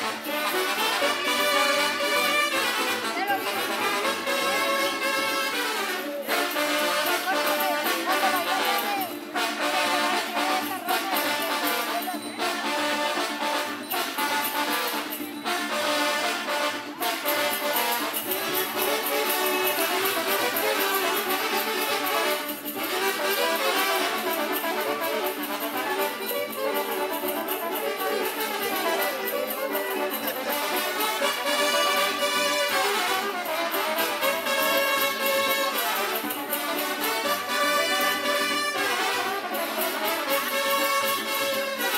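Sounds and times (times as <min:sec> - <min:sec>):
brass band playing dance tune: 0:00.0 - 0:41.9.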